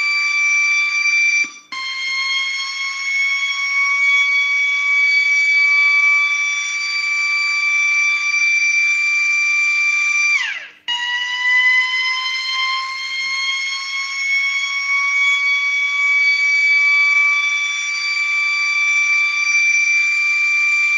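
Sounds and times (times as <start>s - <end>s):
electric motor siren wailing: 0.0s - 20.9s.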